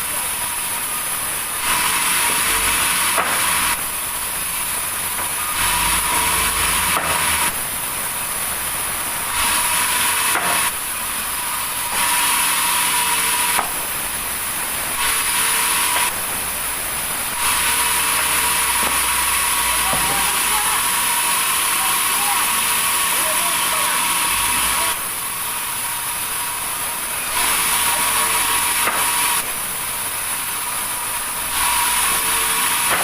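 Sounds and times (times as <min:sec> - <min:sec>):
saw cutting through wood: 0:00.0 - 0:33.0.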